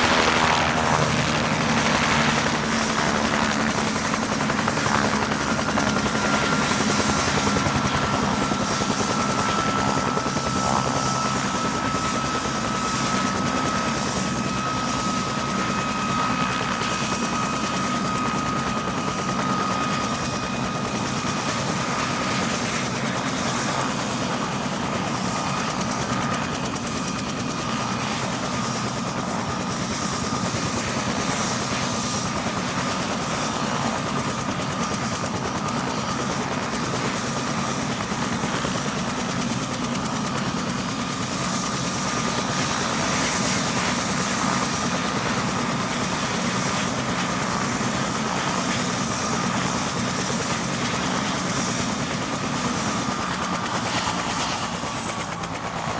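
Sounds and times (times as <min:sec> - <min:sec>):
helicopter rotor and engine: 0:00.0 - 0:55.9.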